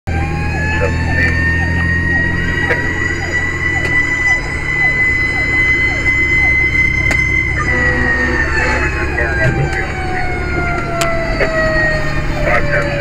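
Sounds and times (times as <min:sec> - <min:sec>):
high-pitched tone: 0:00.4 - 0:13.0.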